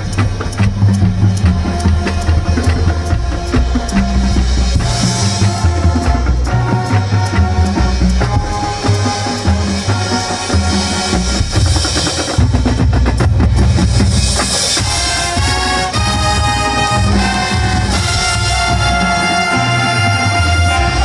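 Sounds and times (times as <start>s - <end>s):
marching band brass: 0.0s - 21.0s
percussion strokes: 0.0s - 21.0s.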